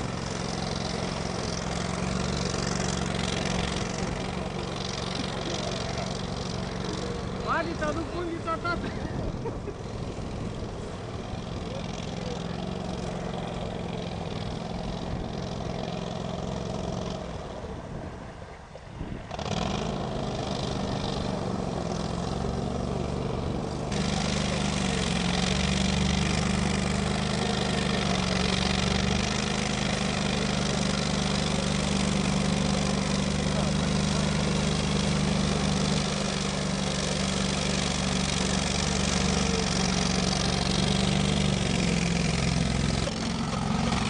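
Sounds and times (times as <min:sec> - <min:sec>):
vehicle engine running: 0:00.0 - 0:44.0
vehicle pushing through reeds: 0:00.0 - 0:44.0.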